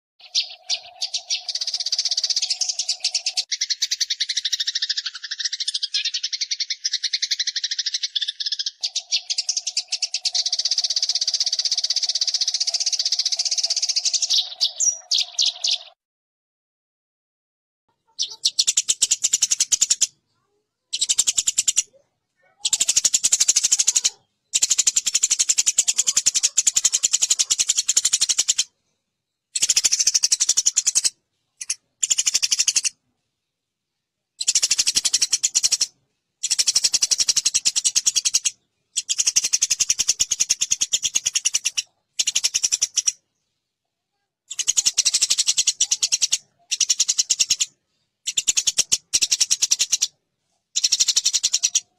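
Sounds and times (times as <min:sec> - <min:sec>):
sparrows chattering: 0:00.2 - 0:16.0, 0:17.9 - 0:51.9.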